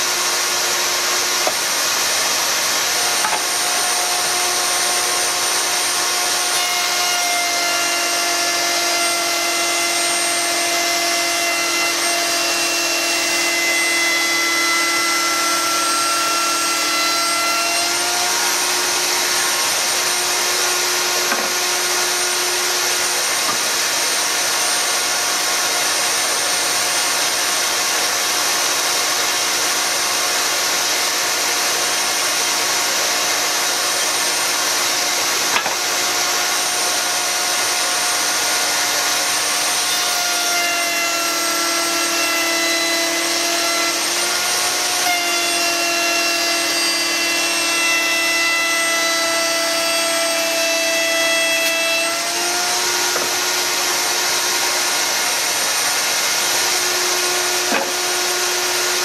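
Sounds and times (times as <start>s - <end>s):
router cutting wood: 0.0s - 59.0s.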